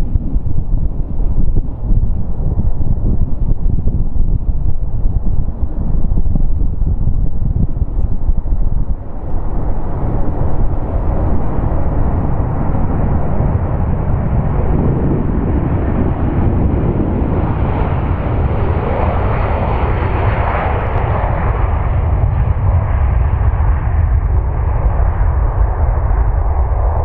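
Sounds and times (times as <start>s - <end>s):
jet engines deep rumble: 0.0s - 27.0s
jet rushing noise: 0.0s - 27.0s.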